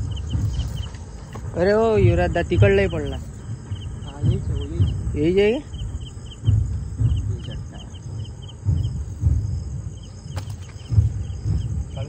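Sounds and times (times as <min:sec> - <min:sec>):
crickets chirping: 0:00.0 - 0:12.0
low rumbles: 0:00.0 - 0:12.0.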